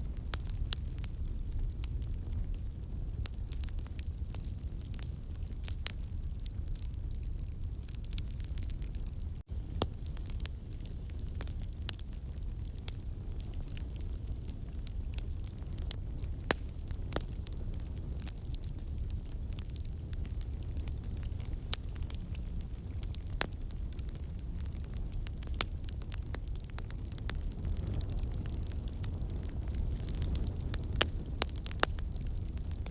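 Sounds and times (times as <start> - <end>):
fire crackling in fireplace: 0.0 - 32.9.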